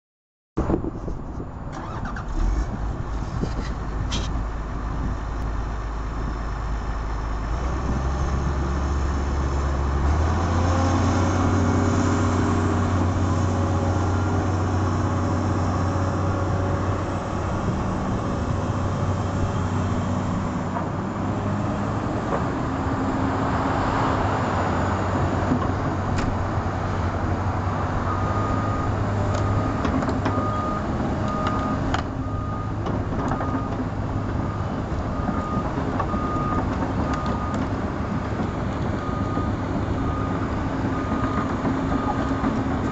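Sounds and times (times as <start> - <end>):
excavator diesel engine running: 1.6 - 42.9.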